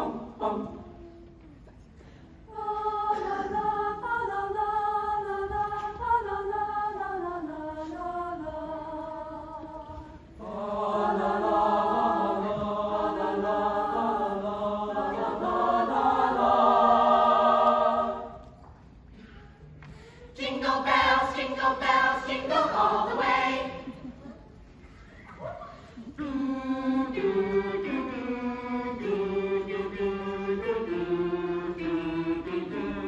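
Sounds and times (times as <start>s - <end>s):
choir singing a cappella: 0.0s - 1.3s, 2.4s - 18.6s, 20.3s - 24.7s, 25.7s - 33.0s.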